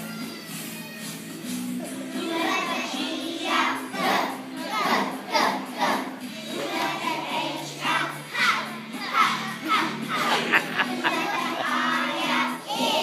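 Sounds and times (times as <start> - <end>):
musical accompaniment: 0.0 - 13.0
children singing together: 1.8 - 13.0.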